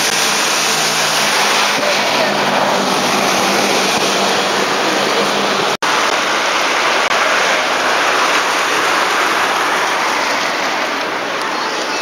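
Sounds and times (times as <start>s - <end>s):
loud rushing noise: 0.0s - 12.0s.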